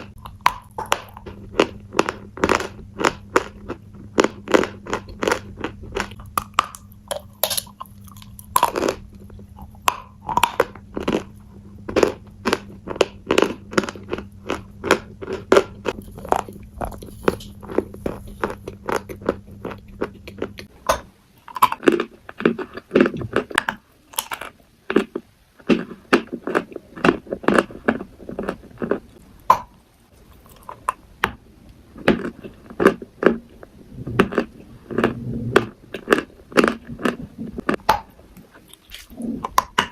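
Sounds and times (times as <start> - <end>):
crunchy food chewing: 0.0 - 31.1, 31.9 - 39.9.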